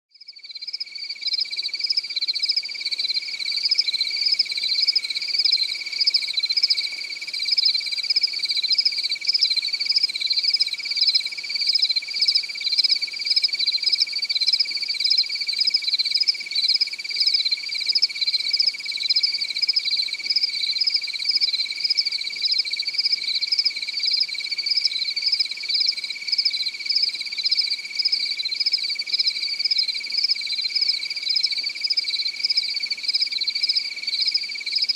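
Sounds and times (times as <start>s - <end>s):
cricket steady trill: 0.1s - 34.9s
crickets pulsing chirp: 0.2s - 34.9s.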